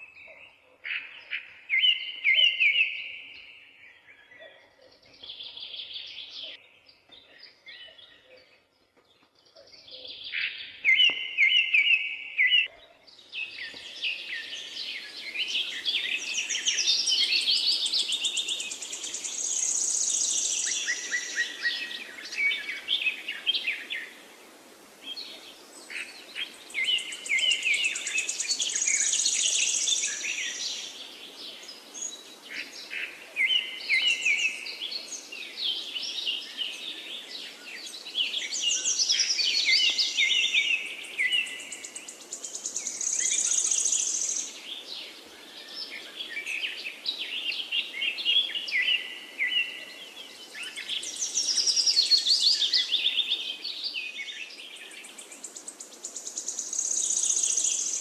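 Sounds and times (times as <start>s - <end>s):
songbirds chirping and trilling: 0.0s - 58.0s
forest ambience hiss: 4.9s - 58.0s.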